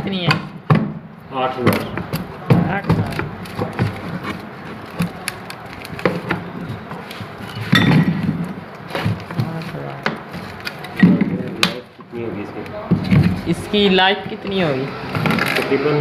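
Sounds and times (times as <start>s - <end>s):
handling knocks and clicks: 1.6s - 15.7s.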